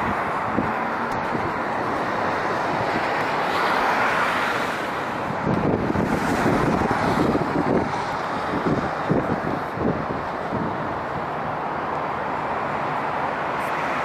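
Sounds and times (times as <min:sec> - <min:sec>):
wind buffeting microphone: 0:00.0 - 0:13.2
jet engines on approach: 0:00.0 - 0:14.0.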